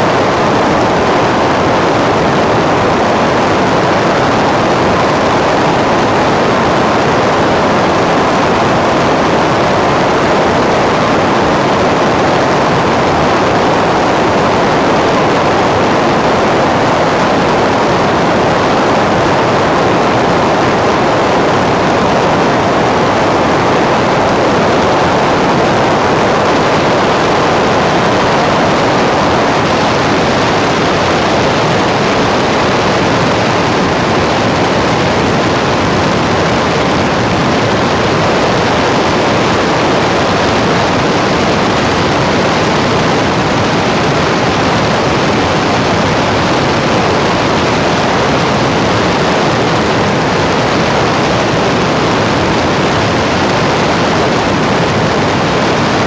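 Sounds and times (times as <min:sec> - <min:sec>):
loud steady rushing noise: 0:00.0 - 0:56.0.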